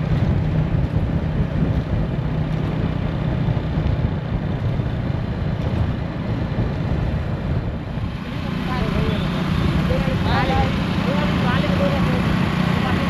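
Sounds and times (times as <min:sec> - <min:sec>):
motorcycle engine running: 0:00.0 - 0:13.0
road noise: 0:00.0 - 0:13.0
rushing wind: 0:00.0 - 0:13.0.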